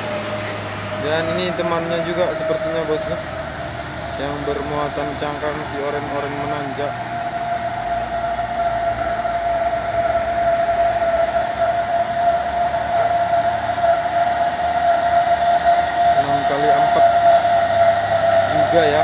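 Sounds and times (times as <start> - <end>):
high drivetrain whine: 0.0 - 19.0
truck engine labouring uphill: 0.0 - 19.0.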